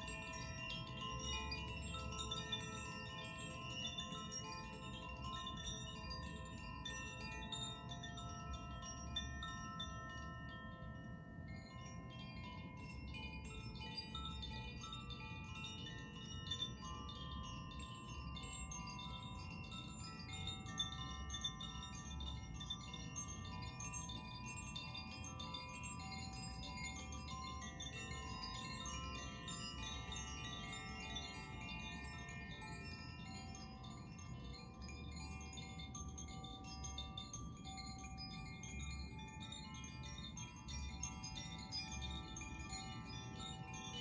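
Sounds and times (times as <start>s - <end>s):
wind chimes ringing: 0.0s - 44.0s.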